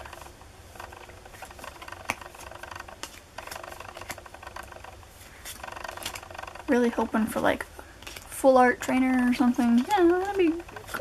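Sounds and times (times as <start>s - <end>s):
cards rustling and clicking: 0.0s - 11.0s.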